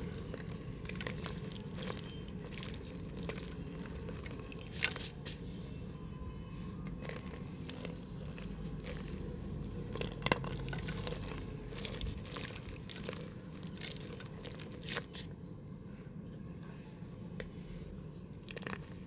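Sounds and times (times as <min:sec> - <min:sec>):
mud crumbling in a pot: 0:00.0 - 0:15.6, 0:17.4 - 0:19.0.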